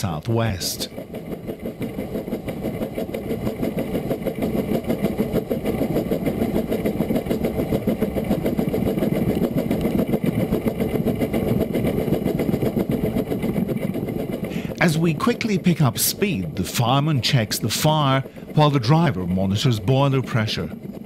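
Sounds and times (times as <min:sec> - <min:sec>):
steam locomotive exhaust chuffs: 0:00.0 - 0:21.0
train running rumble: 0:00.0 - 0:21.0.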